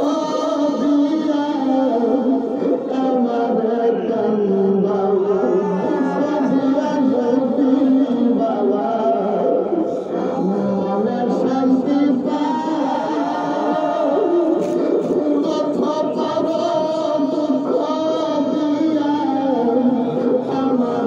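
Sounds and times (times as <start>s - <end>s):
person singing devotional song: 0.0s - 21.0s.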